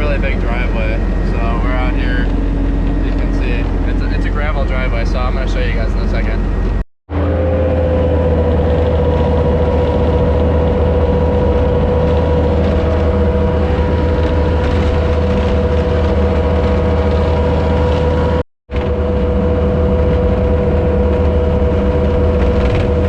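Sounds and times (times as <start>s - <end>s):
high engine whine: 0.0s - 23.0s
vehicle engine humming: 0.0s - 23.0s.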